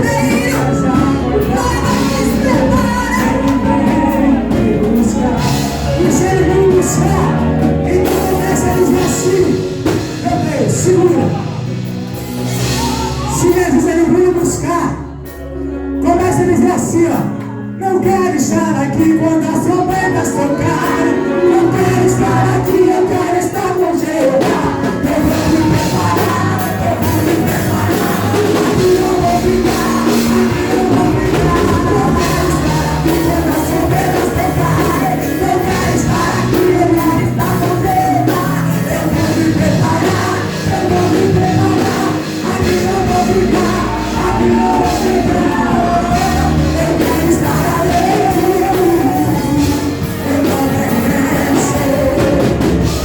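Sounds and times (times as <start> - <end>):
person singing: 0.0 - 53.0
rock band playing: 0.0 - 53.0.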